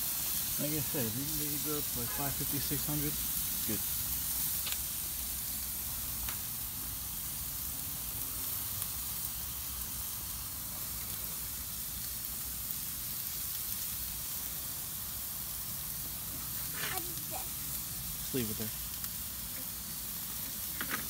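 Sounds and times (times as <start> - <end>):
steaks sizzling on grill: 0.0 - 21.0.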